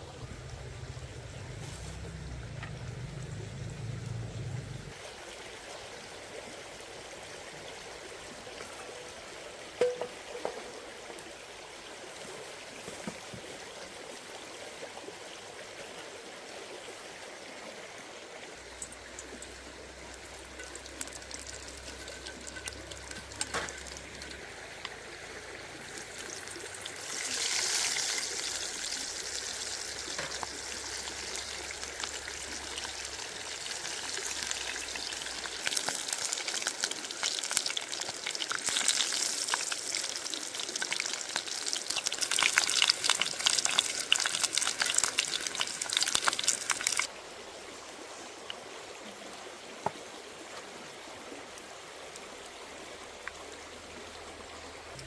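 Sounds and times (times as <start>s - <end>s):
water trickling and running: 0.0s - 55.0s.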